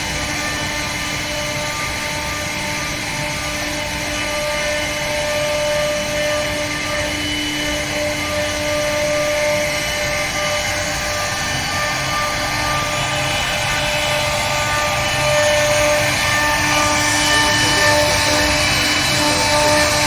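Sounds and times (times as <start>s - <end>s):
router machine whine: 0.0s - 20.0s.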